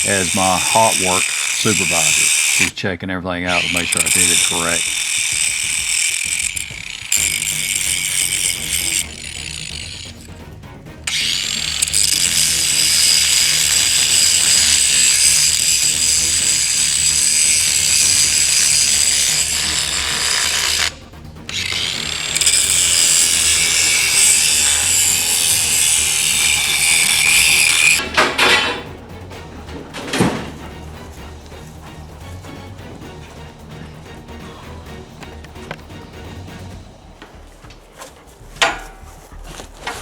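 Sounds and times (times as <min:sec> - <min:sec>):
power grinder cutting steel: 0:00.0 - 0:10.4, 0:11.0 - 0:37.2.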